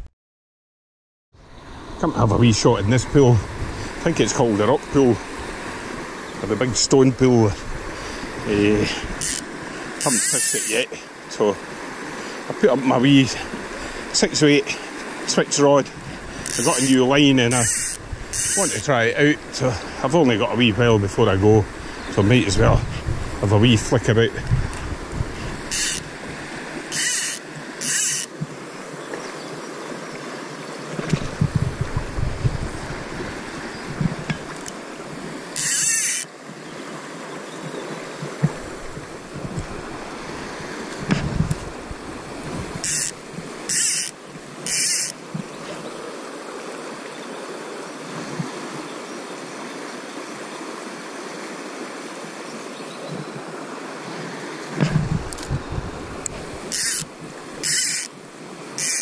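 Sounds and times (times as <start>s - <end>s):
river water rushing: 1.4s - 59.0s.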